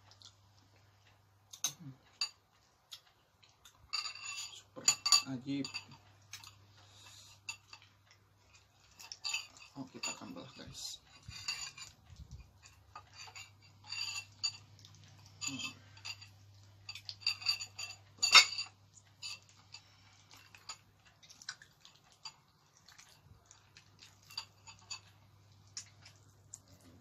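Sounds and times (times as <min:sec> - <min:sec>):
low steady hum: 0:00.0 - 0:27.0
bone and spoon clinking on bowl: 0:03.8 - 0:06.6, 0:07.3 - 0:27.0.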